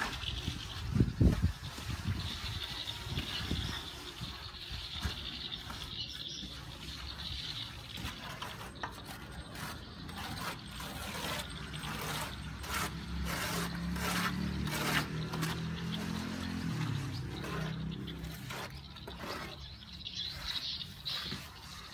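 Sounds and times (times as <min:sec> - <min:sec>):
trowels scraping cement render: 0:00.0 - 0:21.9.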